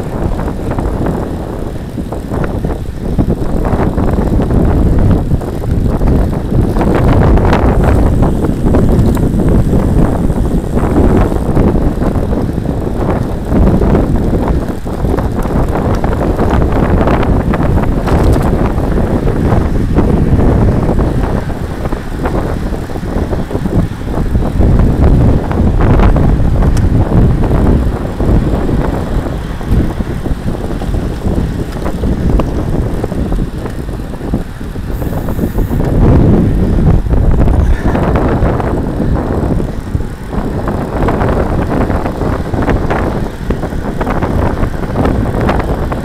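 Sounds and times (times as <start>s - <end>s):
tyre road noise: 0.0s - 46.0s
wind buffeting microphone: 0.0s - 46.0s.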